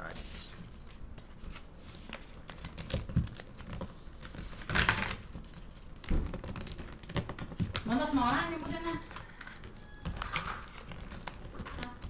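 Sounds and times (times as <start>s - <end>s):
paper rustling as folded: 0.0s - 12.0s.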